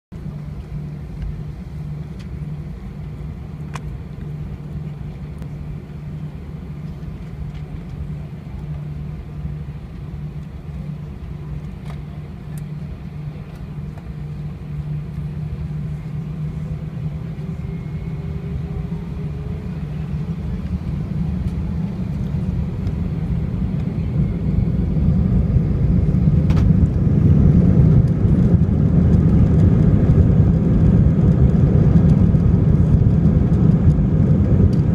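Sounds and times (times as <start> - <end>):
jet engines hum inside cabin: 0.1 - 34.9.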